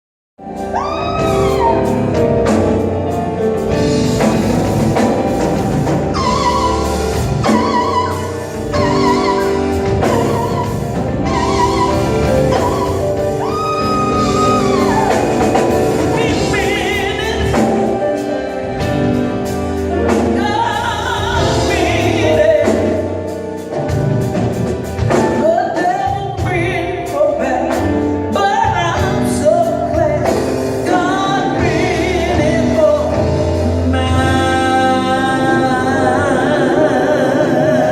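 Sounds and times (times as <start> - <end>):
band playing: 0.4 - 37.9
person singing gospel: 5.2 - 23.3, 25.1 - 37.9.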